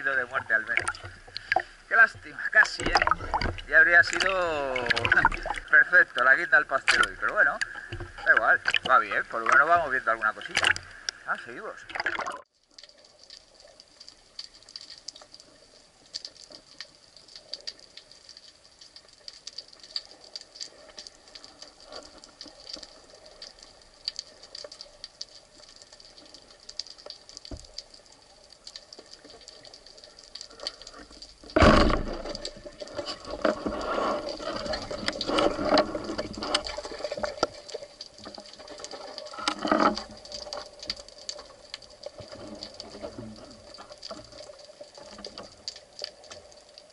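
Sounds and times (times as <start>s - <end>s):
underwater crackle of small clicks: 0.0s - 46.9s.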